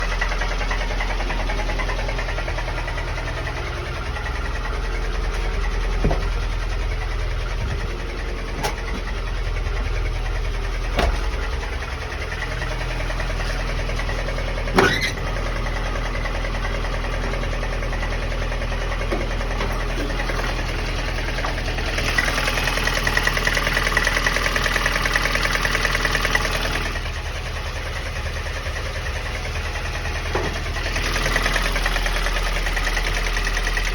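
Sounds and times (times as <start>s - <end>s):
engine running with knock: 0.0s - 33.9s.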